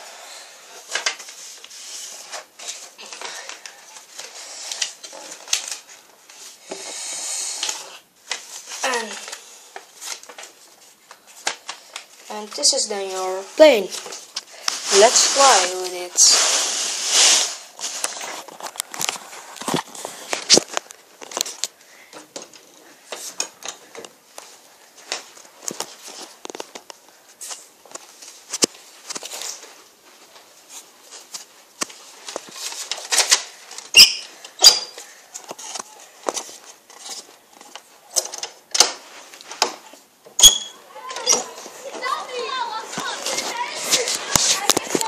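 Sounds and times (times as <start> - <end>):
paper rustling: 0.7 - 40.0, 40.9 - 45.0.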